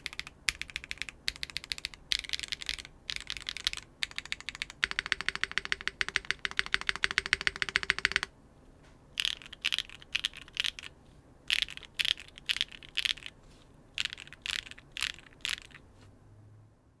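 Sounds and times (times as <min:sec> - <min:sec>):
mechanical keyboard typing: 0:00.0 - 0:08.3, 0:09.2 - 0:13.4, 0:14.0 - 0:15.8.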